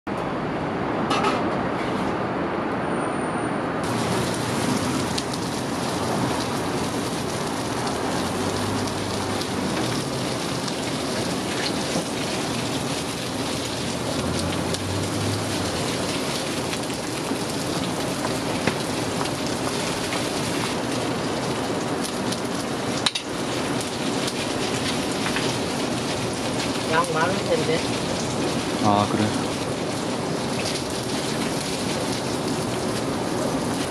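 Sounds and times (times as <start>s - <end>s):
food sizzling in oil: 3.8s - 33.9s.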